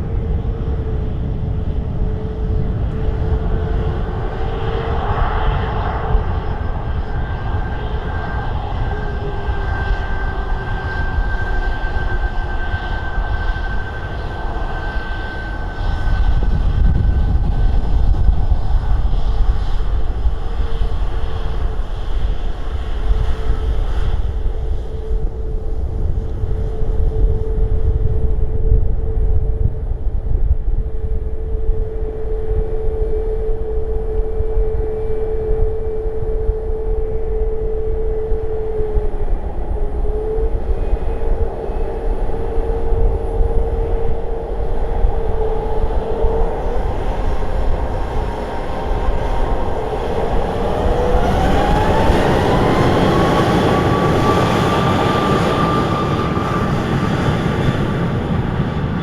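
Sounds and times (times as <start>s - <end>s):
jet engines whining: 0.0s - 59.0s
wind rumbling on microphone: 0.0s - 59.0s.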